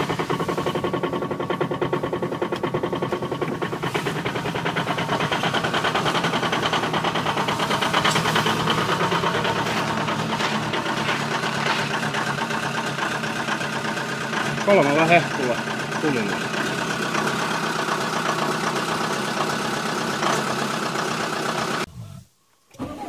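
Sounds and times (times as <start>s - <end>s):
diesel engine idling with clatter: 0.0s - 21.9s.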